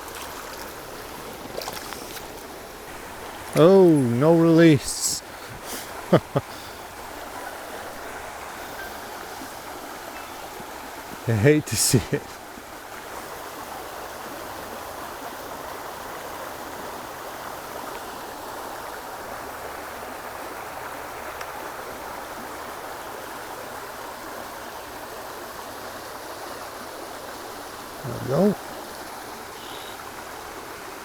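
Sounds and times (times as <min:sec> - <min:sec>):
river flowing: 0:00.0 - 0:31.0.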